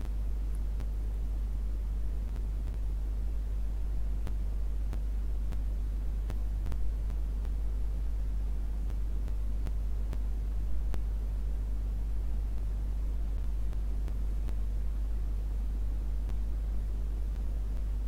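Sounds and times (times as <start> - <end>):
faint background hiss: 0.0 - 18.0
low electrical hum: 0.0 - 18.0.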